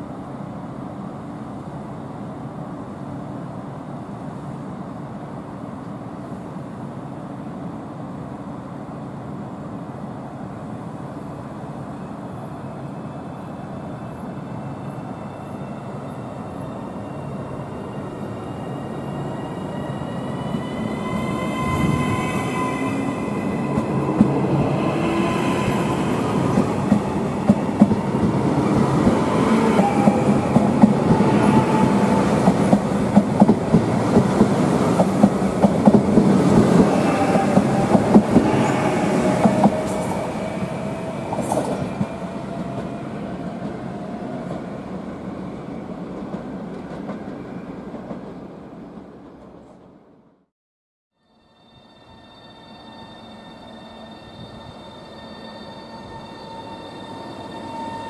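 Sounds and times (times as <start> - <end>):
train approaching: 0.0 - 50.4, 51.2 - 58.0.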